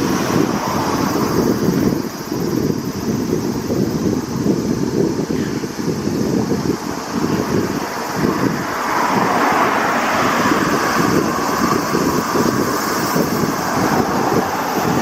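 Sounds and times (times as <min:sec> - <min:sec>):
broad rushing noise: 0:00.0 - 0:15.0
wind buffeting microphone: 0:00.0 - 0:15.0.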